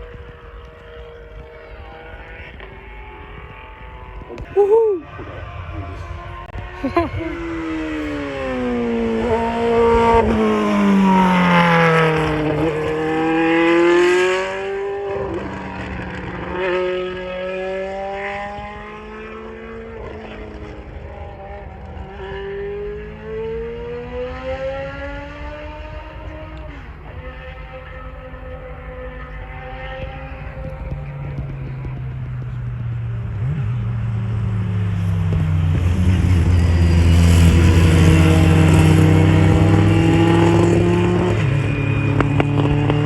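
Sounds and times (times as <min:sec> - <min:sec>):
racing car engine passing by: 0:00.0 - 0:43.0.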